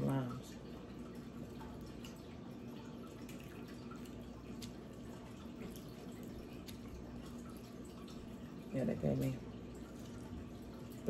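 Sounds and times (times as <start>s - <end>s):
aquarium filter trickling water: 0.0s - 11.0s
faint steady hum: 0.0s - 11.0s.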